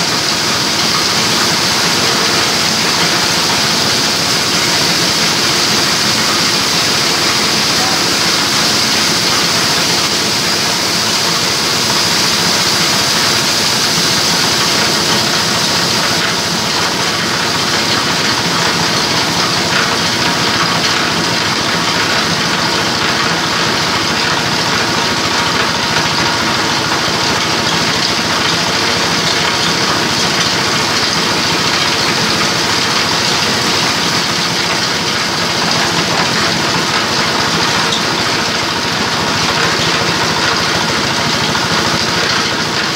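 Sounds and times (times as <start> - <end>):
grinder mill running: 0.0 - 42.9.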